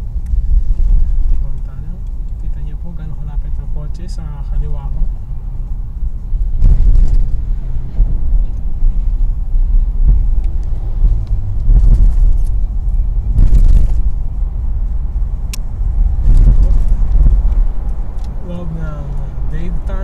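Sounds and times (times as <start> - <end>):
car road and wind rumble: 0.0 - 20.0
passing vehicles whooshing: 0.0 - 20.0.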